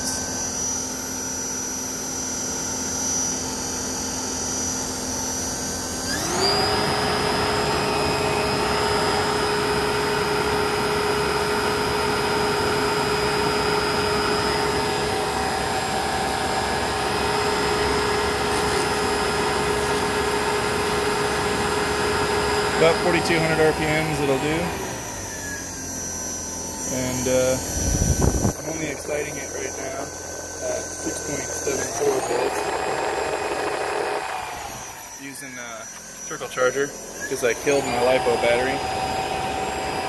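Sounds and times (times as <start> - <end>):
electric motor whine: 0.0 - 40.0.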